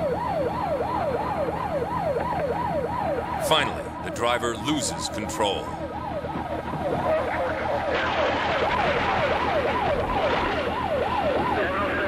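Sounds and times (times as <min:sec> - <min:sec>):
engine and road rumble: 0:00.0 - 0:12.0
police siren yelping: 0:00.0 - 0:12.0.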